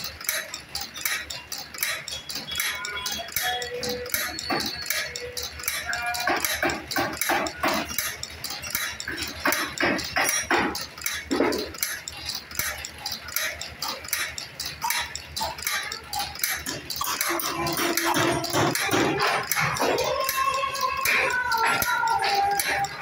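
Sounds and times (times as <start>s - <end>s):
chain-making machine clattering: 0.0s - 23.0s.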